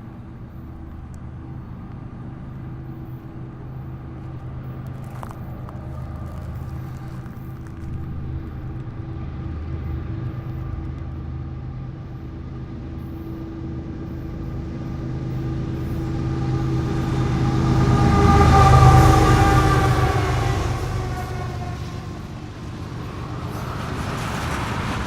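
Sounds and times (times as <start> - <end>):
freight train rumbling: 0.0 - 25.0.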